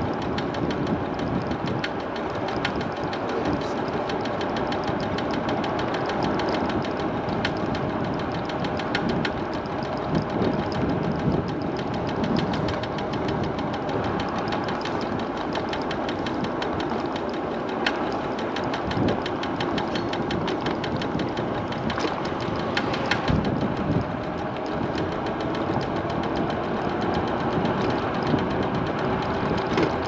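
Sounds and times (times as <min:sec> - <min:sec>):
road and wind noise: 0:00.0 - 0:30.0
scooter wheel ticking knock: 0:00.0 - 0:30.0.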